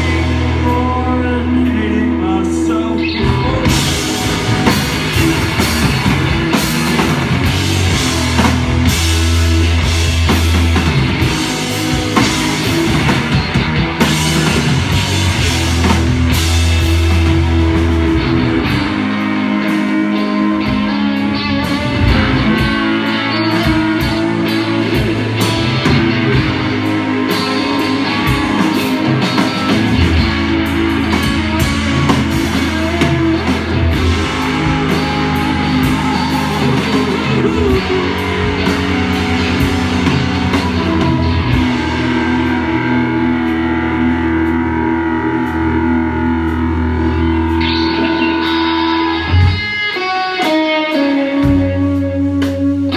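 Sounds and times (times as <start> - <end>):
bass guitar: 0.0 - 52.9
drum kit: 0.0 - 52.9
electric guitar: 0.0 - 52.9.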